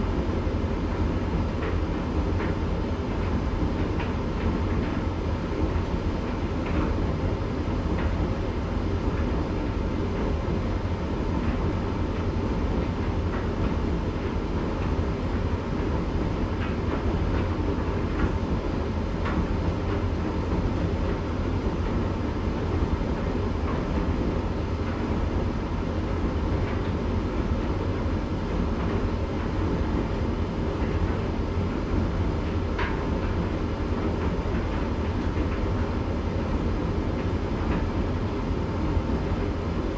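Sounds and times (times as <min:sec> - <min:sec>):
tumble dryer drum rumbling: 0:00.0 - 0:39.9.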